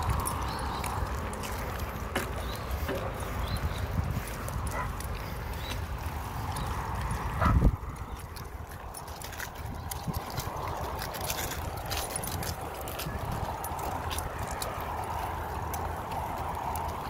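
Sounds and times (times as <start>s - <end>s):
bike tyres rolling on gravel: 0.0s - 17.0s
leash chains jingling: 0.0s - 17.0s
wind rumble: 0.0s - 17.0s.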